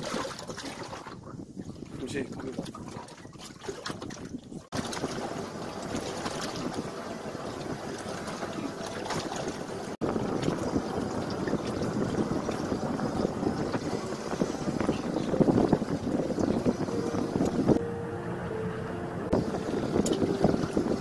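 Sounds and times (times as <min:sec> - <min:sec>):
water washing against boat hull: 0:00.0 - 0:17.8, 0:19.3 - 0:21.0
wind on microphone: 0:00.0 - 0:17.8, 0:19.2 - 0:21.0.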